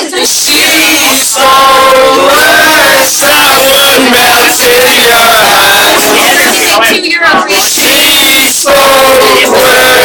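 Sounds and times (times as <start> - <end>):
group singing loudly: 0.0 - 10.0.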